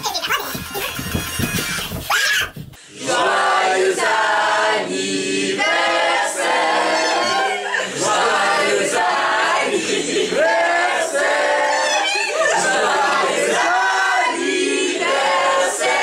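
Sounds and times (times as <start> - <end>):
group singing unaccompanied: 2.9 - 16.0.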